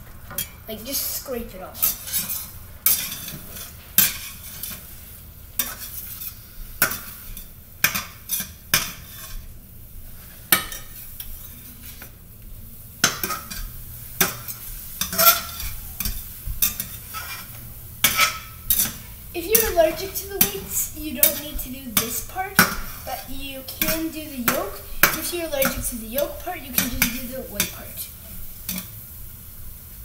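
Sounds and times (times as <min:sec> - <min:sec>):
egg sizzling faintly: 0:00.3 - 0:30.0
spatula scraping frying pan: 0:01.8 - 0:09.5, 0:10.1 - 0:12.2, 0:13.0 - 0:29.0.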